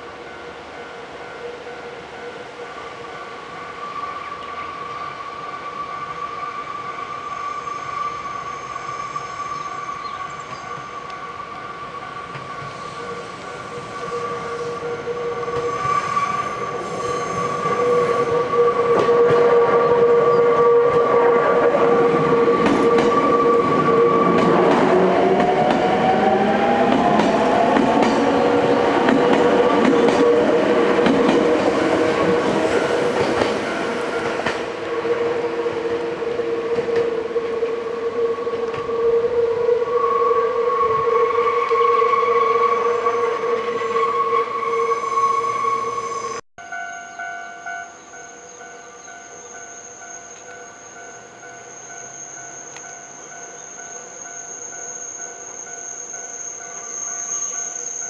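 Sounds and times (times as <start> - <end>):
electric train passing: 0.0 - 58.0.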